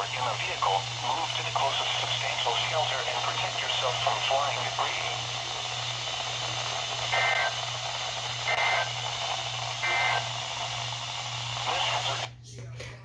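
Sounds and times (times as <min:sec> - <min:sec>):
radio hiss and hum: 0:00.0 - 0:13.0.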